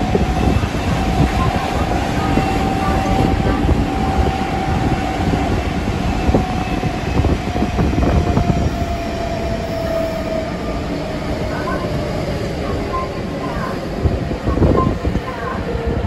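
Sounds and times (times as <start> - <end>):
falling train whine: 0.0 - 16.0
train wheels rumbling on rail: 0.0 - 16.0.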